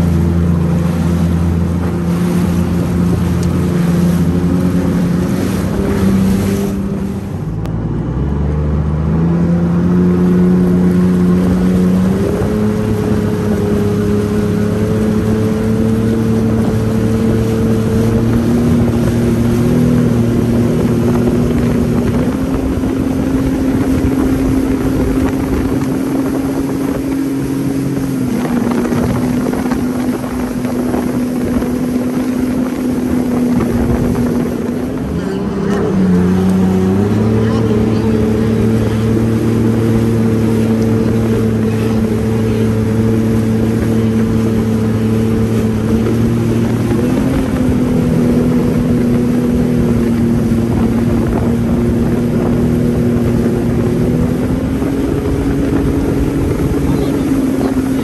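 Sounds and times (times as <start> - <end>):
jet ski engine running: 0.0 - 58.0.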